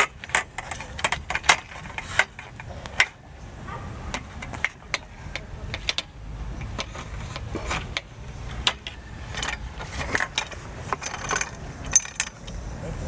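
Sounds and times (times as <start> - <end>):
camping gear clinking and knocking: 0.0 - 12.6.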